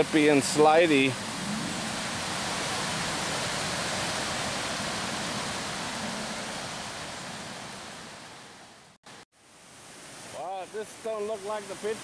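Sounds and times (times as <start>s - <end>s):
waterfall rushing: 0.0s - 8.7s, 9.7s - 12.0s.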